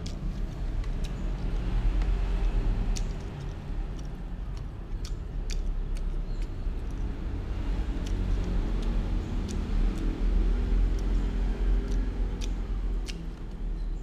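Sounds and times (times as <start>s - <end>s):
sharp light clicks: 0.0s - 7.2s, 7.9s - 14.0s
engine rumbling: 0.0s - 14.0s.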